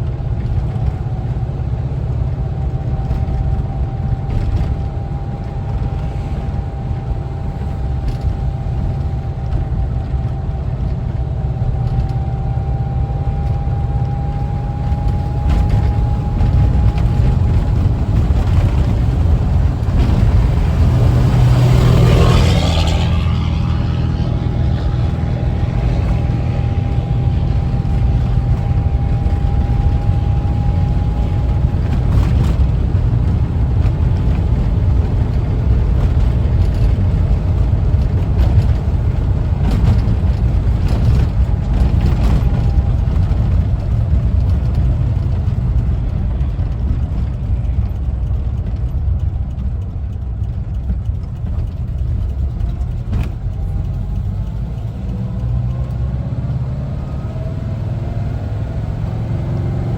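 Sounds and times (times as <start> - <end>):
road rumble: 0.0 - 59.9
van engine droning: 0.0 - 59.9.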